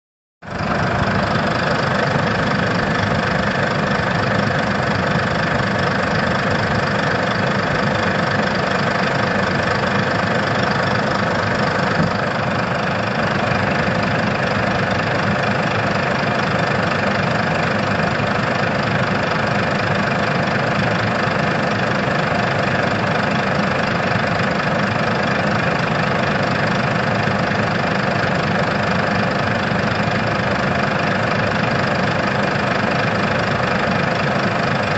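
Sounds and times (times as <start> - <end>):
diesel engine running: 0.4 - 34.9.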